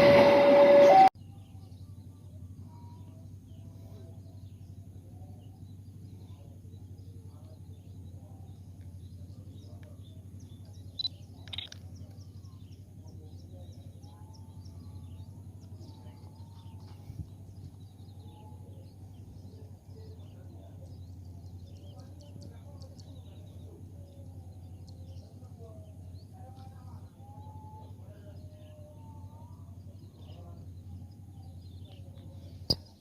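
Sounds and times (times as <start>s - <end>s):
steady low hum: 0.0s - 33.0s
faint bird chirps: 1.2s - 33.0s.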